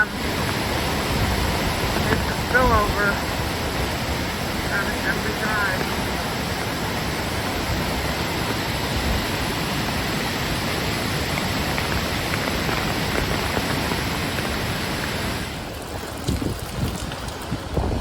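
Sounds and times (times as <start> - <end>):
water pouring down a spillway: 0.0 - 18.0.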